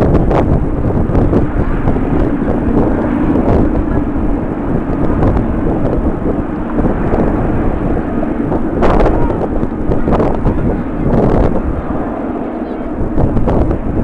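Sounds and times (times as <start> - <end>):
gusty wind buffeting microphone: 0.0 - 14.0
jet engines rumbling: 0.0 - 14.0.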